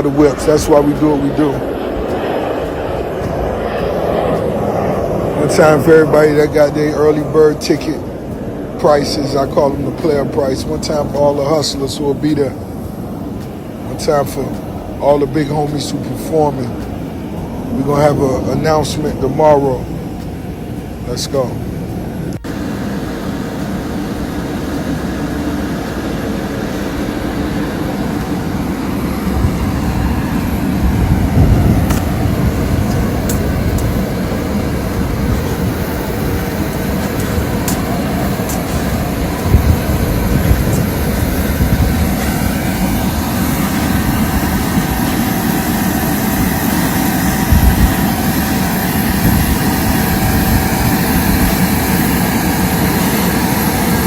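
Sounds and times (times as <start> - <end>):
aircraft engines running: 0.0 - 54.0.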